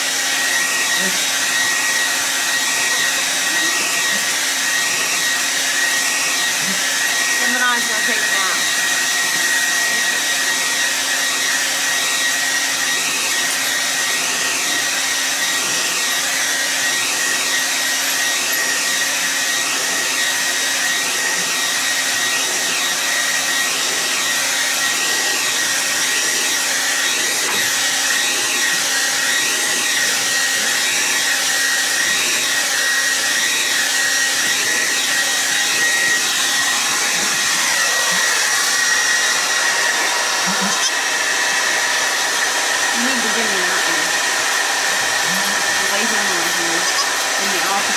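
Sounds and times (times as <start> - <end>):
hair dryer running with high whine: 0.0 - 47.9.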